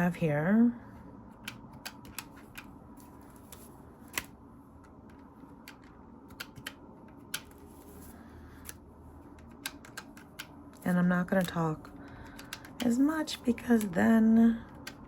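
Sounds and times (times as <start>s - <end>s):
calculator keys clicking: 1.3s - 2.8s, 3.4s - 7.8s, 8.6s - 15.0s.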